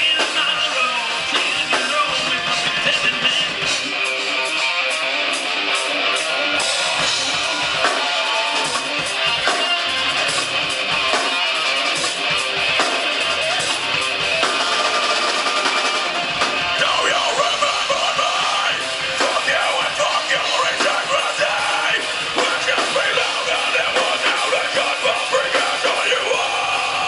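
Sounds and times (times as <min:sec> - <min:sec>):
rock band playing live: 0:00.0 - 0:27.0.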